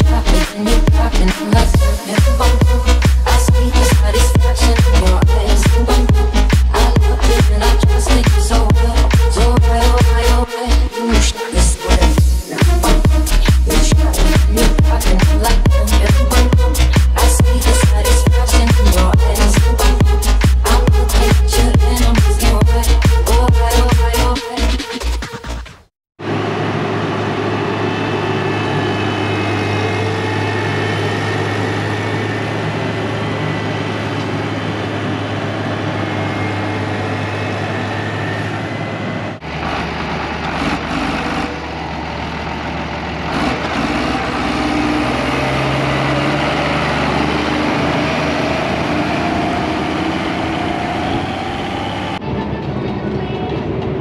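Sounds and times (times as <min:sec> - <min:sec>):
diesel engine running: 0:00.0 - 0:24.8, 0:26.2 - 0:54.0.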